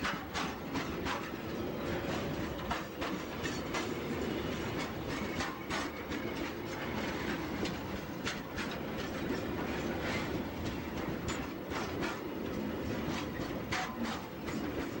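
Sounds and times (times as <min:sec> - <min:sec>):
freight train wheels rumbling: 0:00.0 - 0:15.0
train cars clanking: 0:00.0 - 0:15.0.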